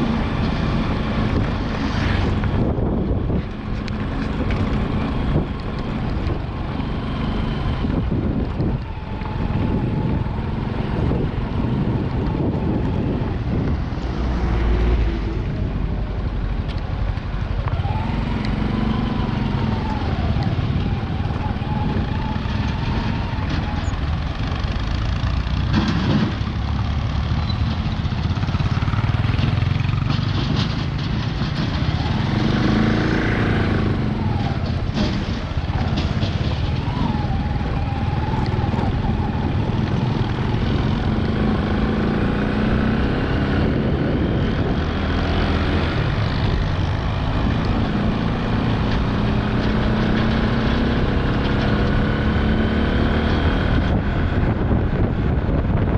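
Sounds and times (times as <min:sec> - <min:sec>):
road noise: 0:00.0 - 0:55.9
vehicle engines passing: 0:00.0 - 0:55.9.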